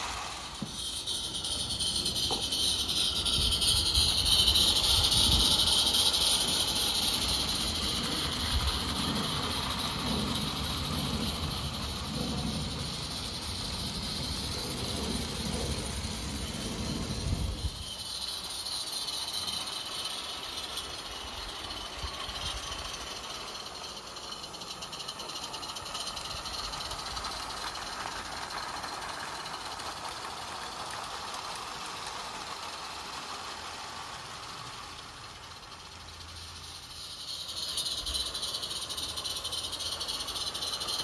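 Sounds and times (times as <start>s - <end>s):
model train rumbling on track: 0.0s - 41.0s
steam hiss: 0.0s - 41.0s.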